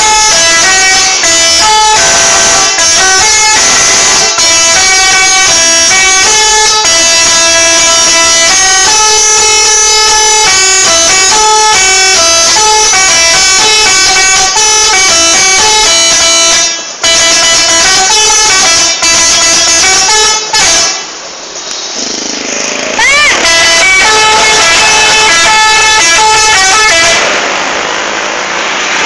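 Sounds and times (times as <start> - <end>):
multi-tone air horns melody: 0.0 - 21.4, 22.9 - 27.4.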